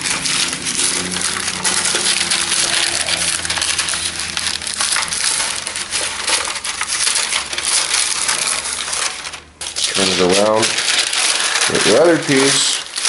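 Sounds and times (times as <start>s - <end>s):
paper and foil pan crinkling: 0.0s - 13.0s.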